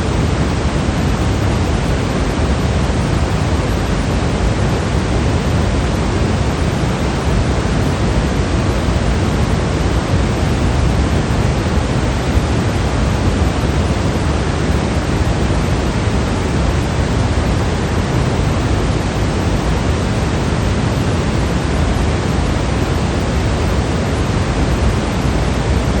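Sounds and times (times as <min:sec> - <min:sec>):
white noise: 0:00.0 - 0:26.0.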